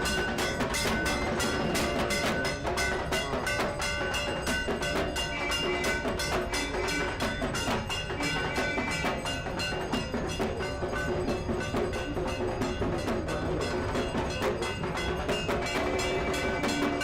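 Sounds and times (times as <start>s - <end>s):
fast percussion knocking: 0.0s - 17.0s.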